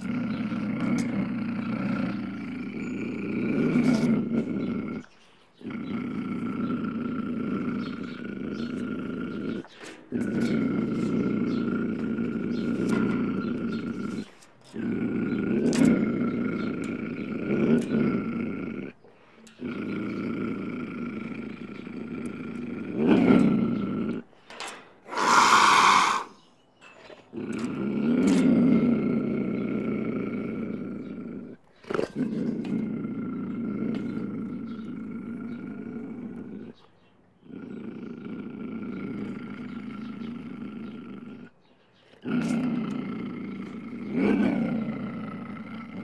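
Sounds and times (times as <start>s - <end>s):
mountain lion growling: 0.0s - 46.0s.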